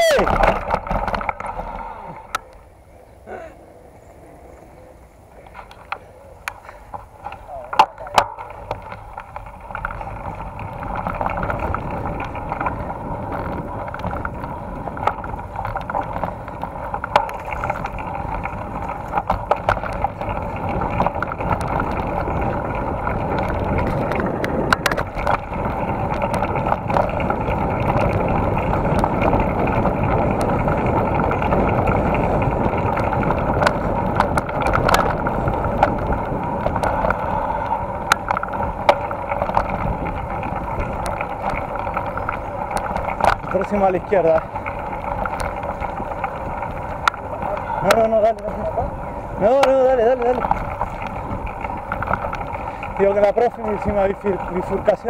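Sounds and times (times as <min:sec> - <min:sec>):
bike clicks and rattles: 0:00.0 - 0:02.8, 0:05.2 - 0:55.0
tyre and wind noise: 0:00.0 - 0:55.0.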